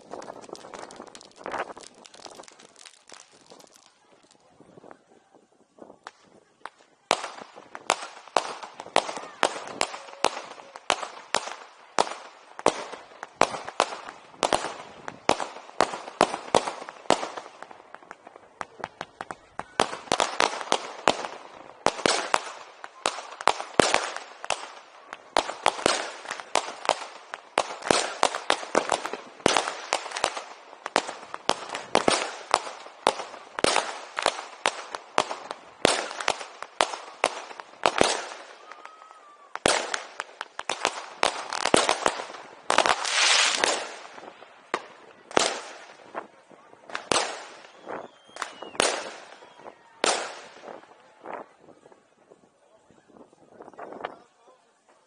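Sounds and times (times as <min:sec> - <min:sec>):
firecrackers and fireworks banging: 0:00.0 - 0:55.0.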